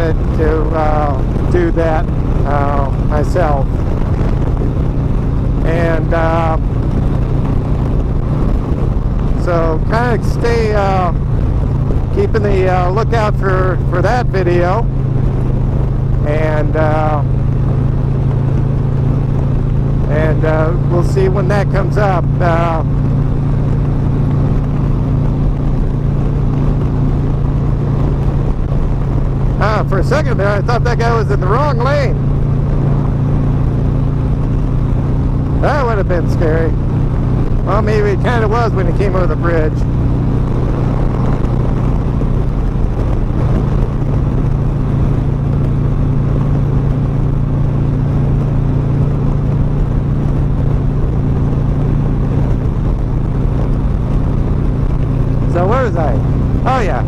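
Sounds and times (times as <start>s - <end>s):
motorcycle engine drone: 0.0s - 57.0s
wind and road noise: 0.0s - 57.0s.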